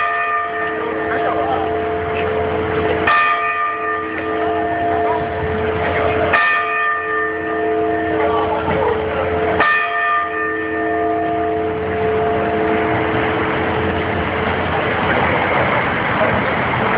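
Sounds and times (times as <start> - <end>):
clock tower bell striking: 0.0 - 16.9
steady background noise: 0.0 - 16.9.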